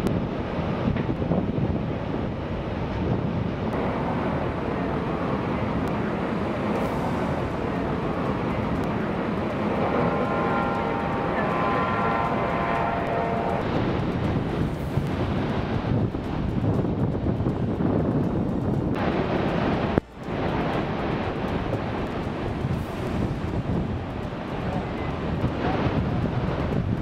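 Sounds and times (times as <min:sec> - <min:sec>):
loud rush of falling water: 0:03.8 - 0:27.0.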